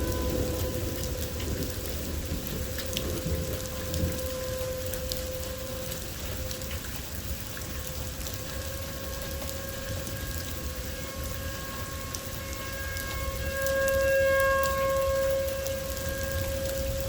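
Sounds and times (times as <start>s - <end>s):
distant warning siren: 0.0s - 17.0s
steady rain: 0.0s - 17.0s.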